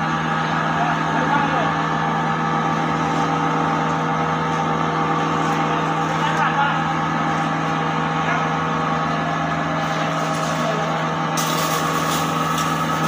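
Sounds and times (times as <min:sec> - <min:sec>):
mill motor humming and whining: 0:00.0 - 0:13.0.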